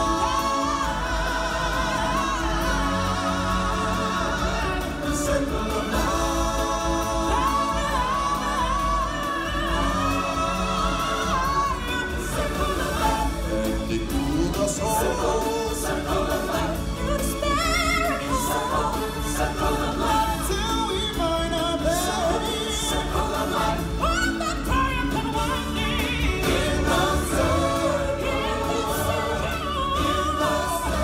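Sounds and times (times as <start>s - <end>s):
loud amplified backing music: 0.0s - 31.0s
singers solo and in chorus: 0.0s - 31.0s.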